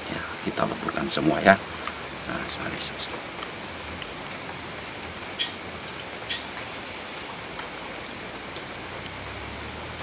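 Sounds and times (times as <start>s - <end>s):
crickets chorus: 0.0s - 10.0s.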